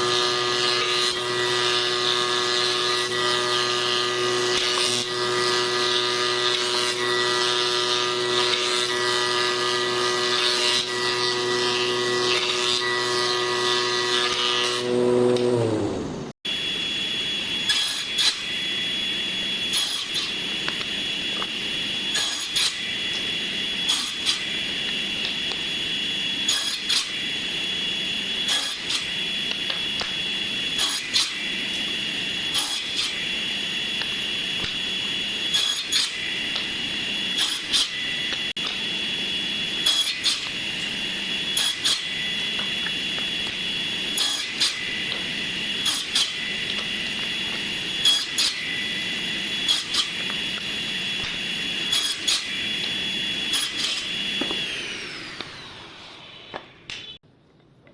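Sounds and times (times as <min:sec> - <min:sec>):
power tool whining: 0:00.0 - 0:57.2.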